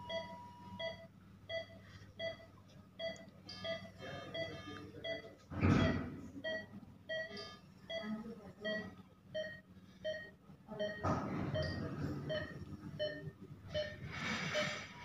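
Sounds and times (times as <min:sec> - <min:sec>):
patient monitor beeping: 0:00.0 - 0:15.0.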